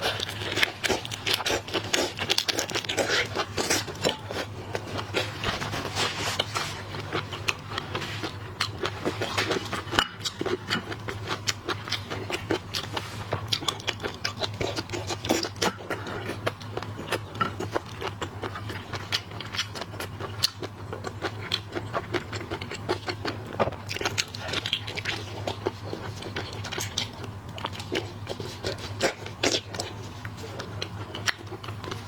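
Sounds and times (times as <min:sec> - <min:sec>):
low steady hum: 0:00.0 - 0:32.0
shells cracking and chewing: 0:00.0 - 0:32.0.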